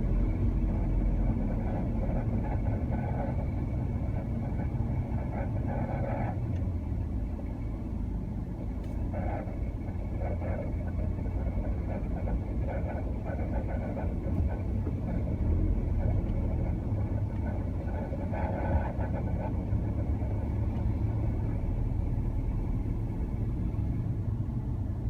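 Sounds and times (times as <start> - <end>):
car engine running with chatter: 0.0 - 25.0.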